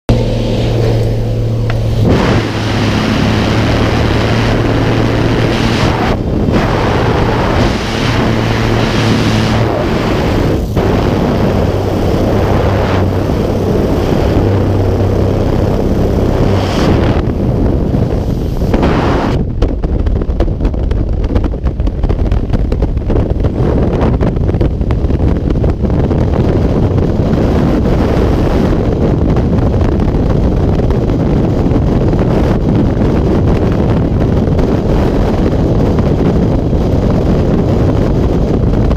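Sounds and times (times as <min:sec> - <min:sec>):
light aircraft engine and propeller: 0:00.1 - 0:38.9
loud wind rushing: 0:00.1 - 0:38.9
wind buffeting microphone: 0:00.1 - 0:38.9.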